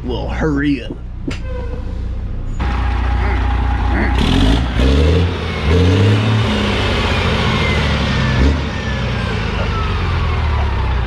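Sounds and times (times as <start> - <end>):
diesel engine revving and idling: 0.0 - 11.0.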